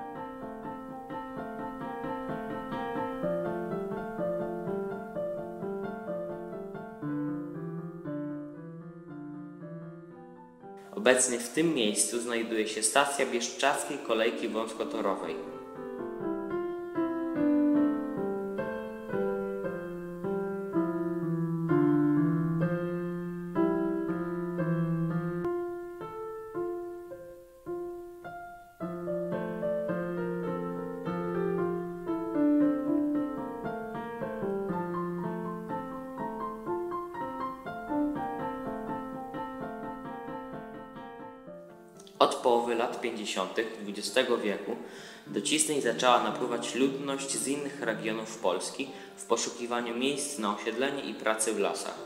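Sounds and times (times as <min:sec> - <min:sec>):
slow piano melody: 0:00.0 - 0:52.0.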